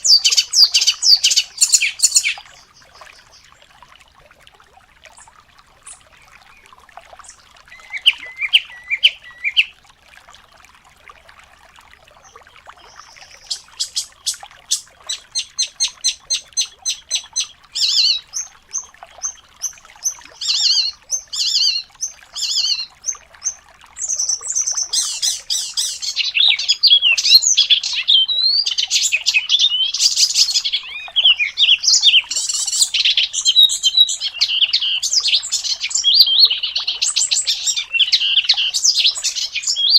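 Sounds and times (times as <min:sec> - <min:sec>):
songbirds singing: 0:00.0 - 0:03.7, 0:05.1 - 0:09.7, 0:12.0 - 0:39.9.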